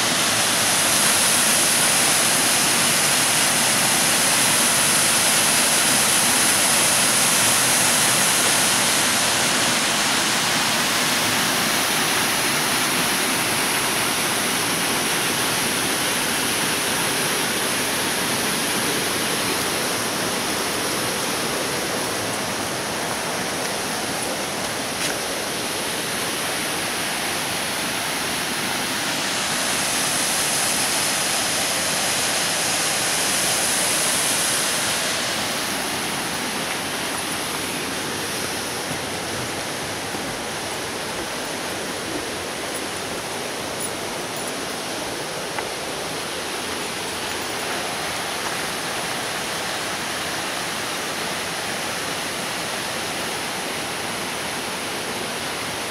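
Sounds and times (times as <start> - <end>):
creek rushing over stones: 0.0 - 55.9.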